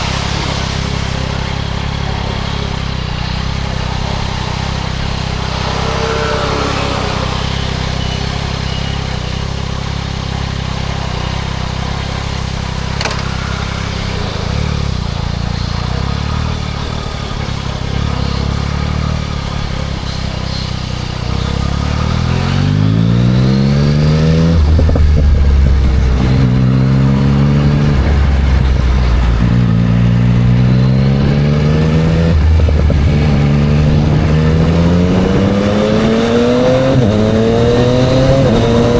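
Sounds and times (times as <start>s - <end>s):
motorcycle engine revving: 0.0s - 38.9s
motorcycle upshifts: 0.0s - 38.9s.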